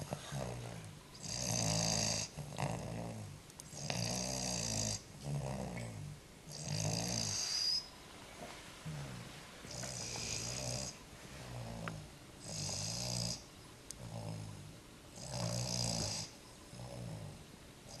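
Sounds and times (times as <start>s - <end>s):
rattling snore: 0.0s - 7.8s, 8.8s - 13.4s, 14.0s - 18.0s.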